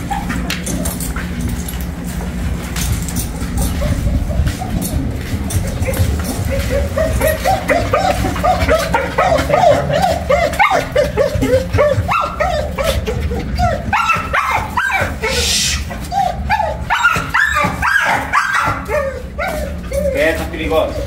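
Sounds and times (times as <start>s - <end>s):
puppies yipping and whining: 0.0s - 21.0s.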